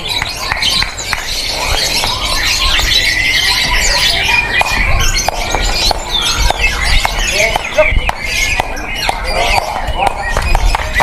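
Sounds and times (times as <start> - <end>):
lovebirds chattering and singing: 0.0 - 11.0.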